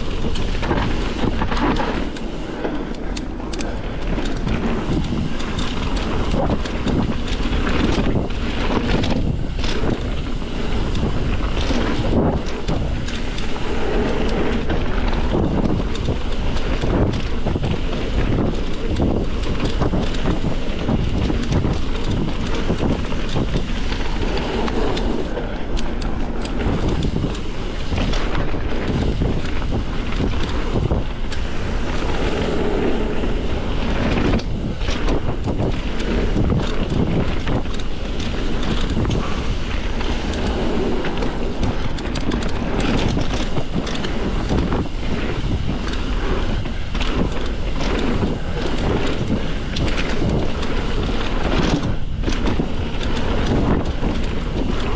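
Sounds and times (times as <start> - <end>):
bike knocks and rattles: 0.0 - 54.9
bike tyre noise on dirt: 0.0 - 54.9
wind buffeting microphone: 0.0 - 54.9.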